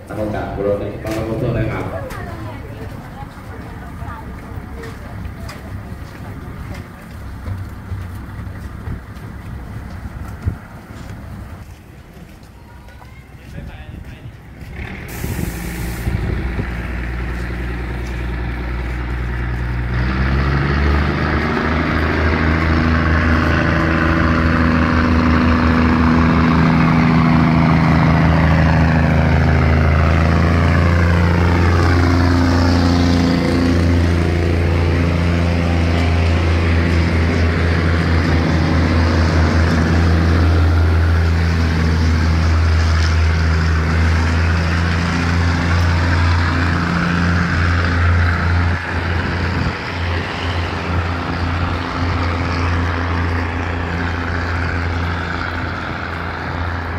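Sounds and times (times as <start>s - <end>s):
diesel train engines under load: 0.0s - 56.9s
train carriages rolling past: 0.0s - 56.9s.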